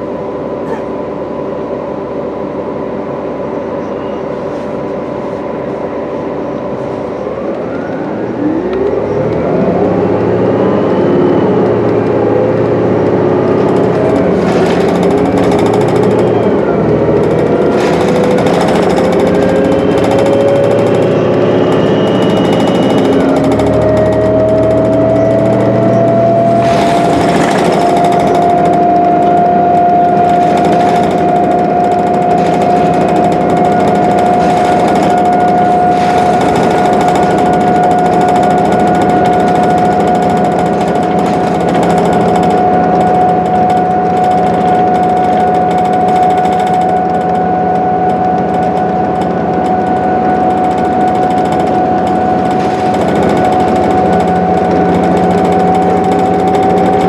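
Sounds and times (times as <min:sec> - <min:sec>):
bus diesel engine drone: 0:00.0 - 0:57.0
high drivetrain whine: 0:00.0 - 0:57.0.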